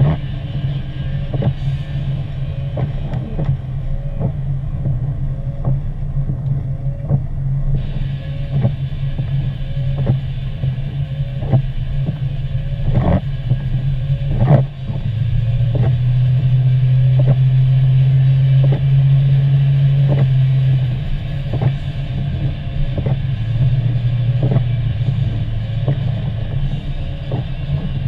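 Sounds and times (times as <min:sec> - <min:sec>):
car interior road drone: 0:00.0 - 0:28.0
soft wiper stroke: 0:00.0 - 0:28.0.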